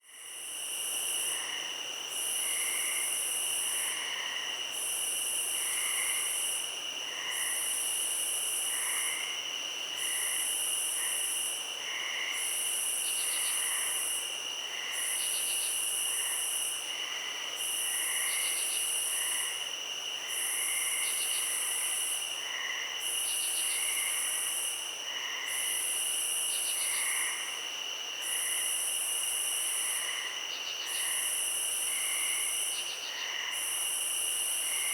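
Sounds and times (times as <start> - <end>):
cricket trills: 0.0 - 34.9
rapid insect trills: 0.0 - 34.9.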